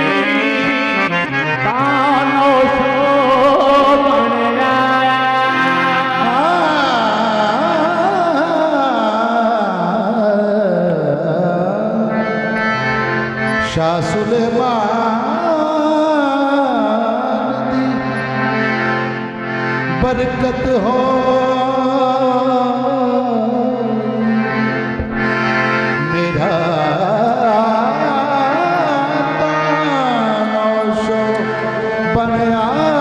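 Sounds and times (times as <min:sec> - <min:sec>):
harmoniums playing: 0:00.0 - 0:33.0.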